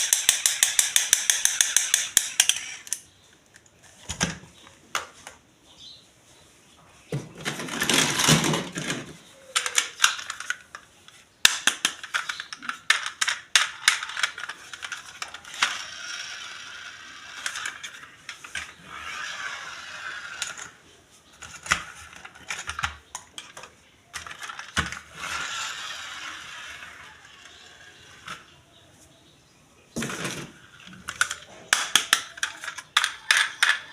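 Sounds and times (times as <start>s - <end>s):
plastic toy parts clicking: 0.0s - 5.4s, 7.5s - 28.5s, 30.0s - 33.9s.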